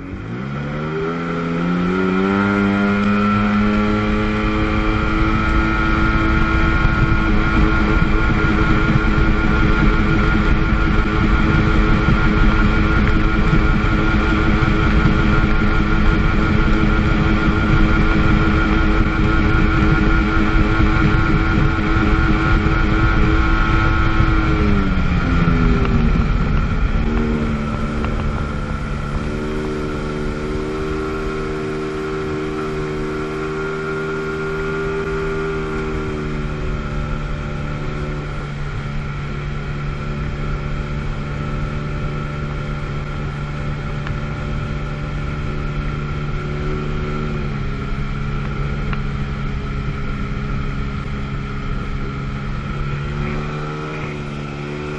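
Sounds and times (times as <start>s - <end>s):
jet ski engine: 0.0s - 54.9s.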